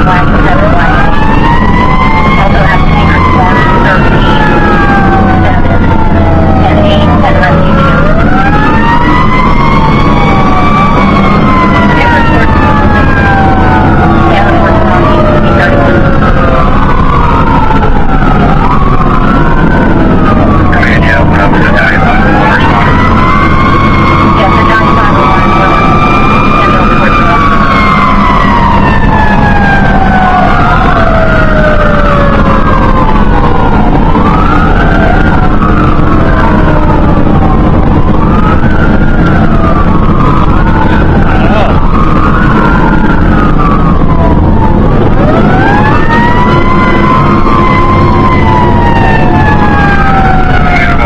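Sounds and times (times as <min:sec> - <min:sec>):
fire engine siren wailing: 0:00.0 - 0:51.0
low truck engine drone: 0:00.0 - 0:51.0.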